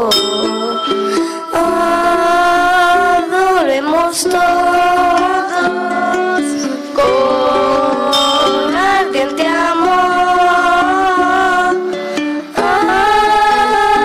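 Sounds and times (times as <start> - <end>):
group singing a hymn: 0.0 - 14.0
plucked strings: 0.0 - 14.0.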